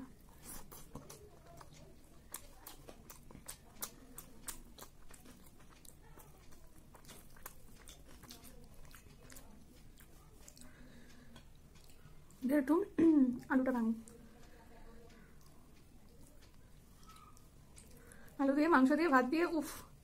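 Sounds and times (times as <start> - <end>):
faint chewing: 0.0 - 20.0.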